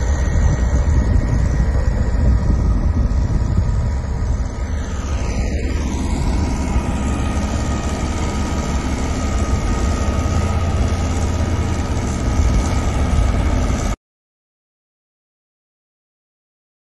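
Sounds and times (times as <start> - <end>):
diesel construction machinery running: 0.0 - 14.0.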